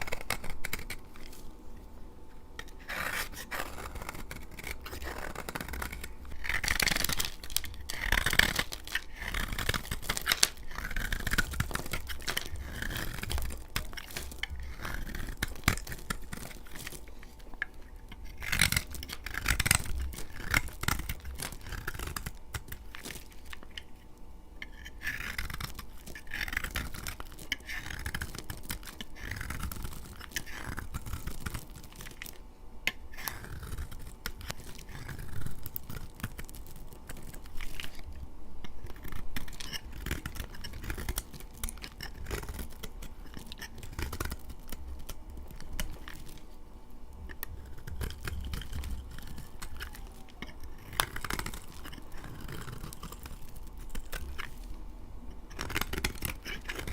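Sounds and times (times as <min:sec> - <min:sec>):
blade scraping soap: 0:00.0 - 0:01.5, 0:02.5 - 0:56.9.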